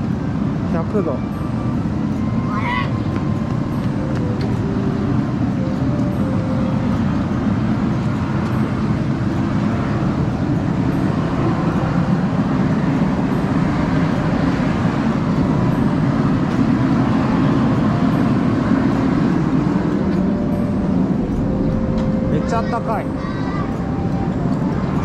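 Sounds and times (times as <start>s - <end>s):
steam vent rushing: 1.4s - 25.0s.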